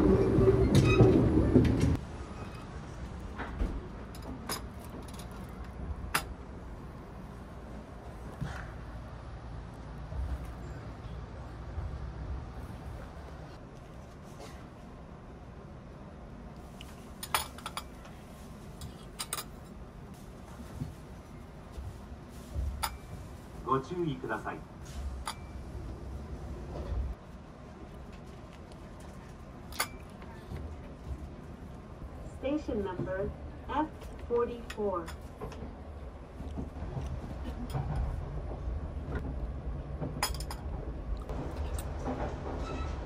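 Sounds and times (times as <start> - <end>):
train carriage rumble: 0.0 - 43.0.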